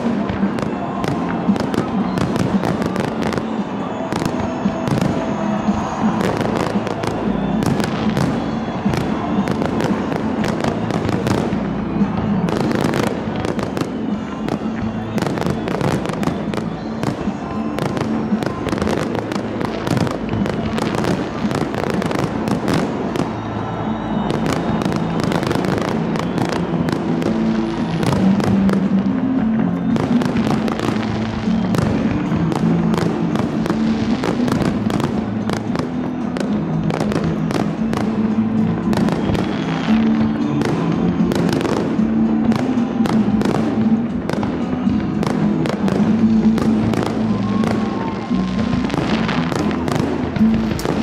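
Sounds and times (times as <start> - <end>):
firework bangs and crackles: 0.0 - 51.0
music playing: 0.0 - 51.0.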